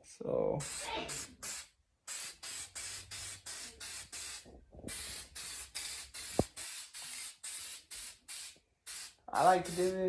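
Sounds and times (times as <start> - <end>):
spray can hissing bursts: 0.6 - 10.0.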